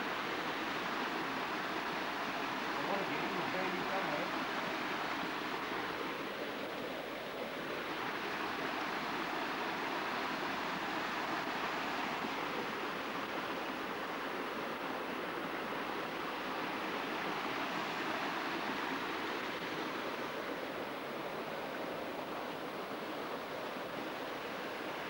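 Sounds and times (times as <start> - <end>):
creek water rushing over rocks: 0.0 - 25.0.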